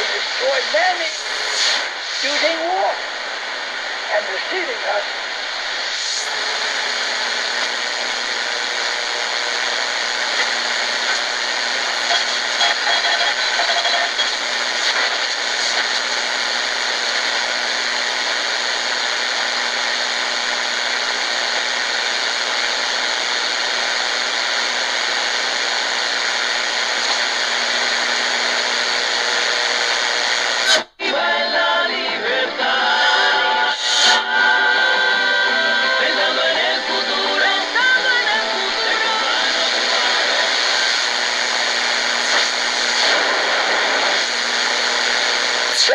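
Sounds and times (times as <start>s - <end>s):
radio static hiss: 0.0s - 31.0s, 31.6s - 45.9s
music from radio: 0.0s - 45.9s.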